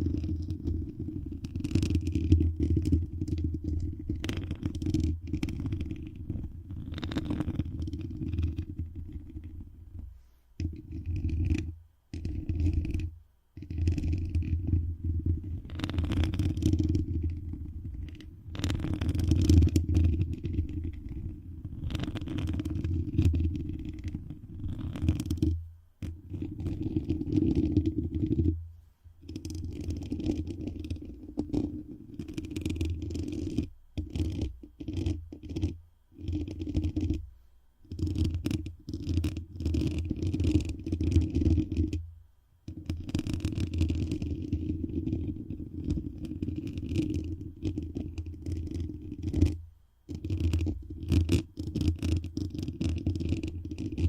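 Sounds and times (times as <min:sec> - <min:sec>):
rubbing on microphone: 0:00.0 - 0:42.0, 0:42.7 - 0:54.0.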